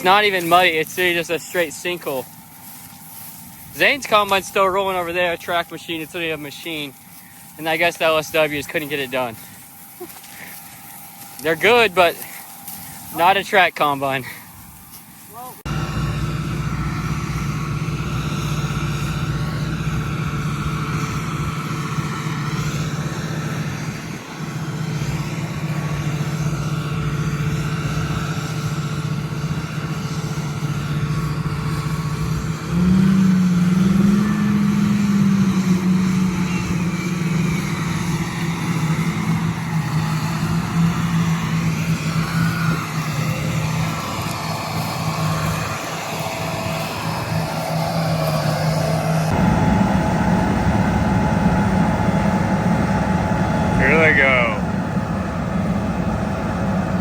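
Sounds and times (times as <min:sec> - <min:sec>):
large diesel engine running: 0:00.0 - 0:57.0.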